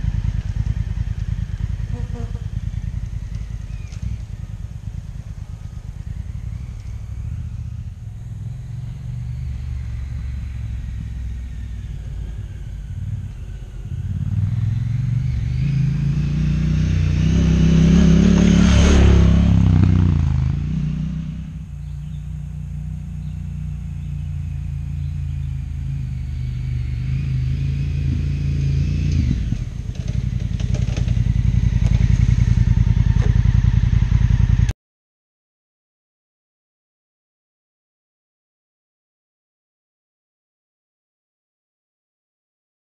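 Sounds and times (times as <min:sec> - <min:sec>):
motorcycle engine passing: 0:00.0 - 0:34.8.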